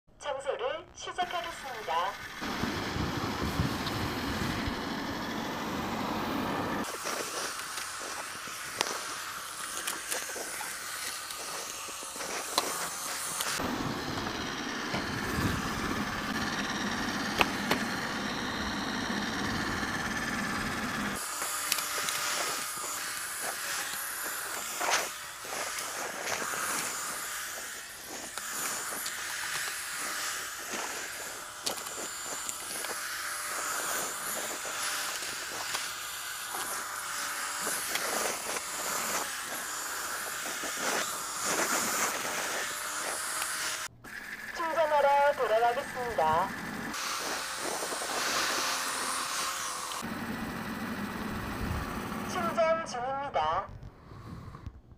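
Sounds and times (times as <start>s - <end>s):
robot vacuum cleaner whirring: 1.1s - 53.2s.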